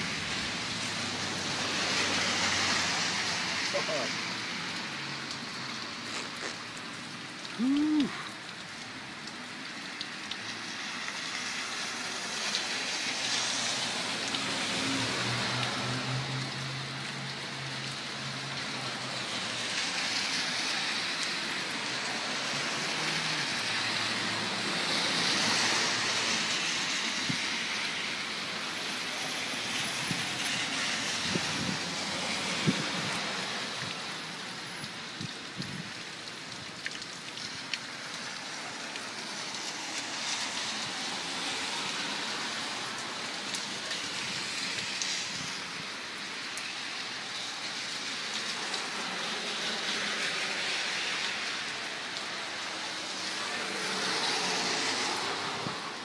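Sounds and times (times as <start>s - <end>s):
rain hiss: 0.0s - 56.0s
tyres hissing on wet street: 0.0s - 56.0s.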